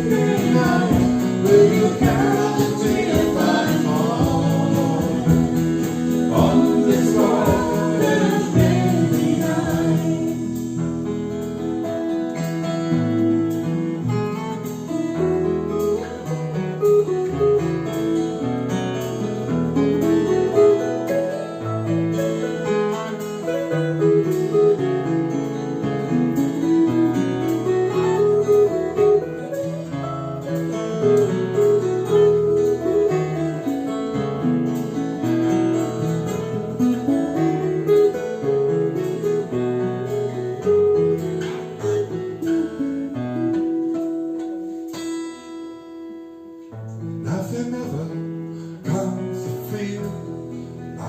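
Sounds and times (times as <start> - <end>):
acoustic guitar strummed and plucked: 0.0 - 51.0.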